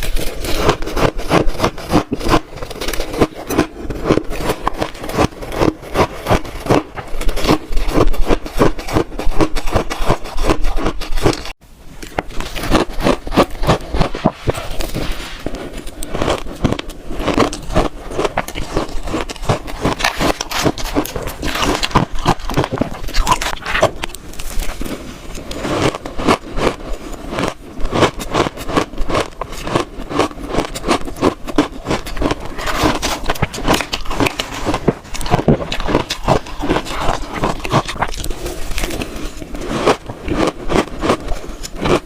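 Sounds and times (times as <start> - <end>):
crunching of chewed ice: 0.0 - 42.0.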